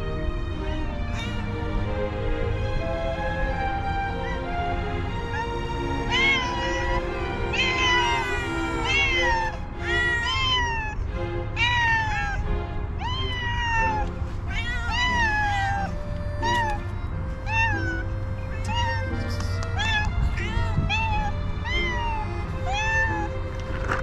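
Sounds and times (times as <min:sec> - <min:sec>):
cats meowing: 0:00.7 - 0:01.6, 0:04.1 - 0:11.0, 0:11.6 - 0:23.4.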